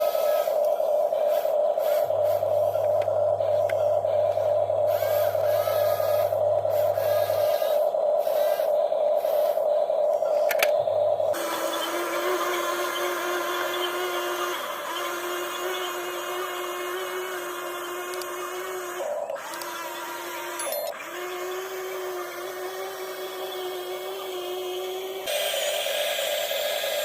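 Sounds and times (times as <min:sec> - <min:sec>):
small electric motor whining: 0:00.0 - 0:27.0.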